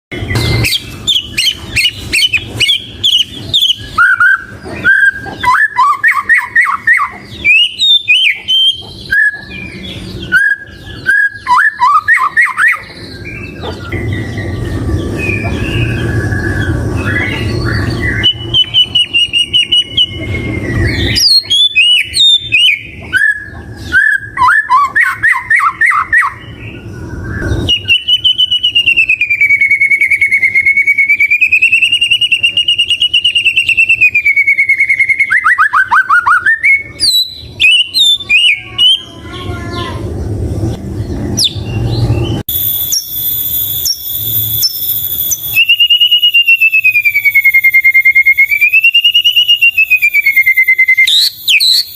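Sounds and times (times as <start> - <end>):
songbird singing varied song: 0.1 - 39.5, 40.7 - 51.9.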